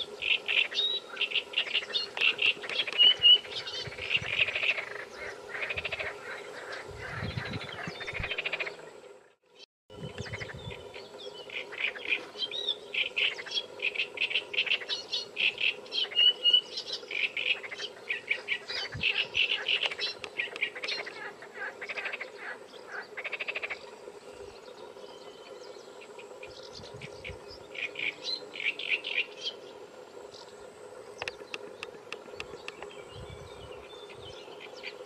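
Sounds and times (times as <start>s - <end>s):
small birds chirping: 0.2s - 8.9s, 10.0s - 35.0s.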